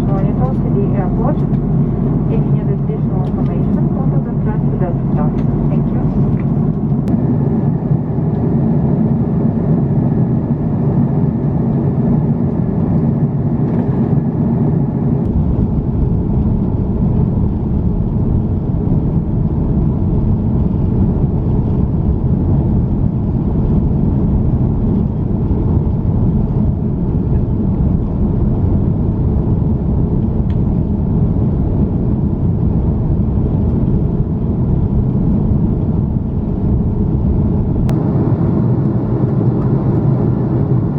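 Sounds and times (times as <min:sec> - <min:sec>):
airliner rushing and rumbling: 0:00.0 - 0:40.9.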